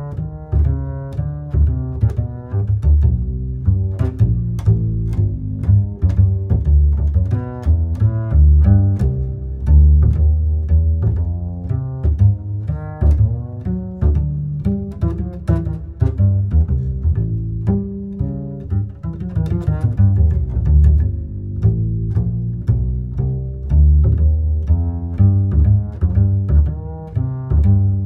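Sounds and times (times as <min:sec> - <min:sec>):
plucked notes music: 0:00.0 - 0:28.0.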